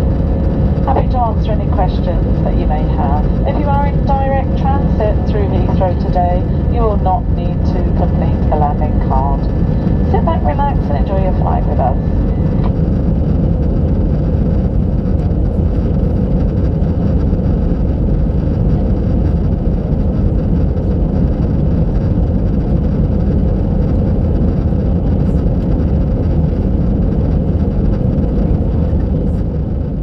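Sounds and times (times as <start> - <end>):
airliner cabin engine noise: 0.0 - 30.0
faint steady hum: 0.0 - 30.0.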